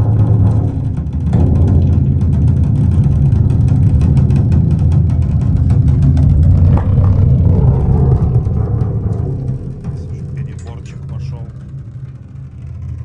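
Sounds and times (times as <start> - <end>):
music with heavy bass: 0.0 - 12.3.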